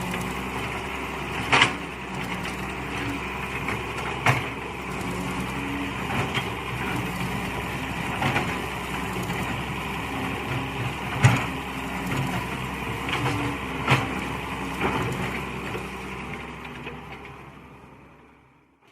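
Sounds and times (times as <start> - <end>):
excavator engine running: 0.0 - 18.9.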